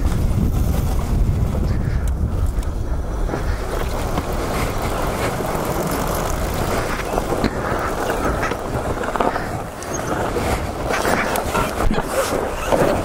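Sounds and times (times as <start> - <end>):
dirt bike engine running: 0.0 - 13.0
wind buffeting microphone: 0.0 - 13.0.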